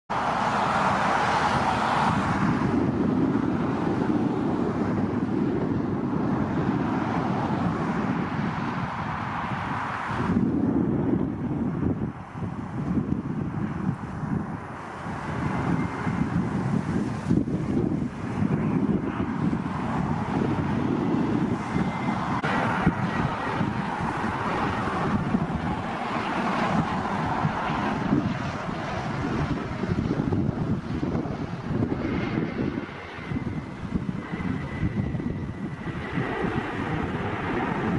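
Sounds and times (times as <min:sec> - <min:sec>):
jet engine rushing: 0:00.1 - 0:37.9
wind buffeting microphone: 0:00.1 - 0:37.9.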